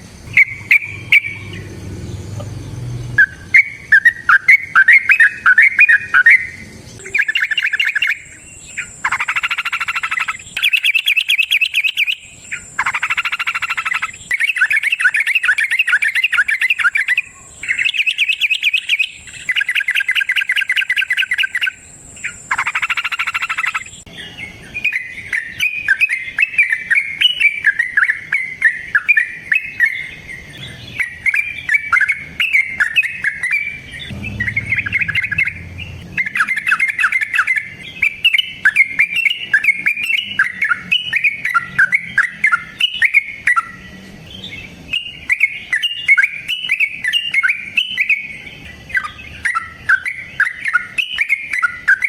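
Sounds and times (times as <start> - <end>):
bulbul singing: 0.0 - 52.0.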